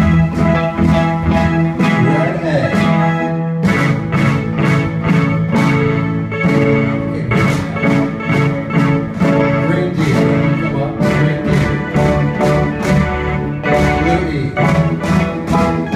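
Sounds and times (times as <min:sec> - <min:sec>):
drum kit steady beat: 0:00.0 - 0:15.9
electric guitar chords: 0:00.0 - 0:15.9.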